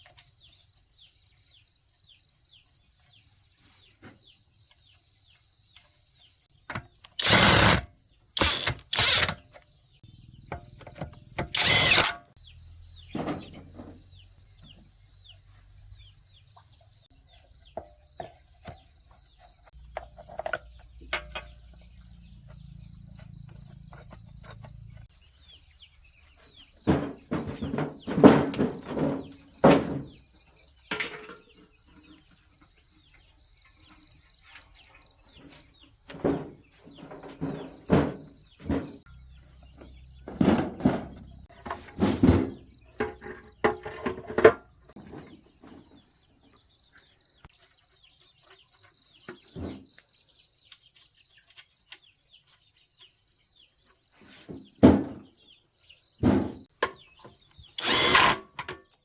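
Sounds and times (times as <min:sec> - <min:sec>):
insects droning: 0:04.0 - 0:59.0.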